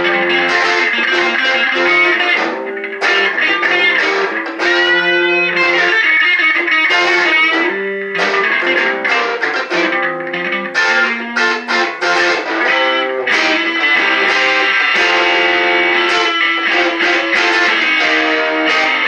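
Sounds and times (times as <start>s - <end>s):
electric guitar notes and chords: 0.0s - 19.0s.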